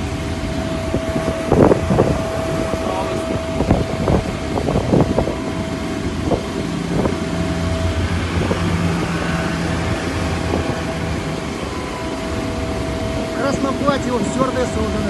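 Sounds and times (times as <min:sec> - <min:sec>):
engine drone: 0:00.0 - 0:15.0
thin whine: 0:00.0 - 0:15.0.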